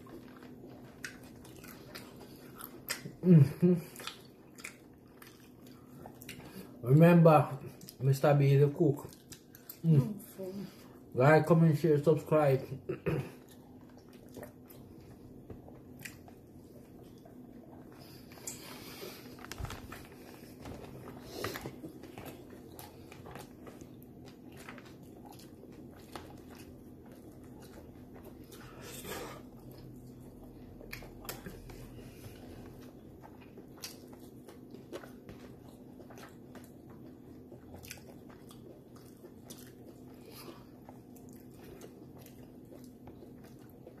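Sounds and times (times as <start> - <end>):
person chewing crunchy food: 0.0 - 6.8, 7.4 - 10.2, 10.8 - 44.0
steady low hum: 0.0 - 44.0.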